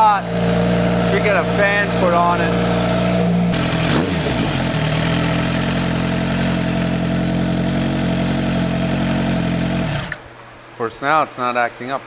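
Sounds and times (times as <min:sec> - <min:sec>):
motorcycle engine idling: 0:00.0 - 0:10.1.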